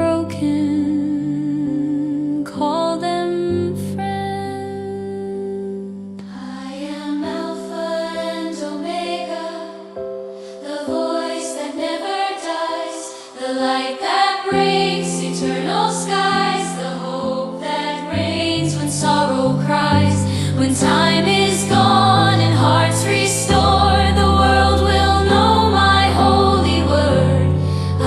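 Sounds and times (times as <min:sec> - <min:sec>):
slow instrumental worship music: 0:00.0 - 0:28.0.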